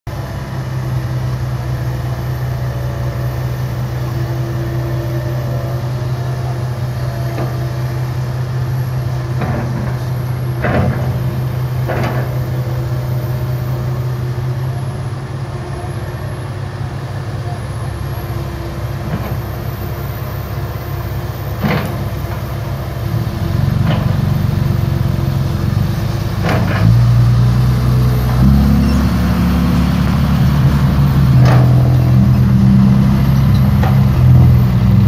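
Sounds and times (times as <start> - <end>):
diesel engines droning: 0.1 - 35.0.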